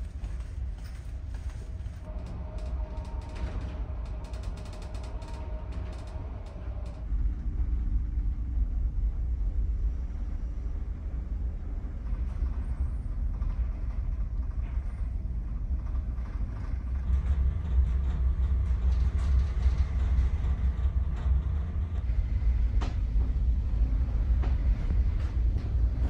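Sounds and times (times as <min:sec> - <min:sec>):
ferry engine rumble: 0:00.0 - 0:26.0.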